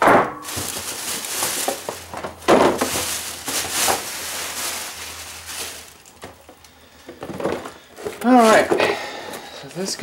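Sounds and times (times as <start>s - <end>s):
cardboard boxes rustling: 0.4s - 9.0s.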